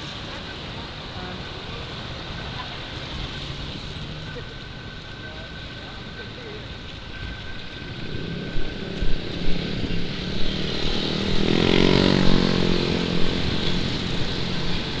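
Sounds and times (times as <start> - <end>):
motorcycle engines: 0.0 - 15.0
road noise: 0.0 - 15.0.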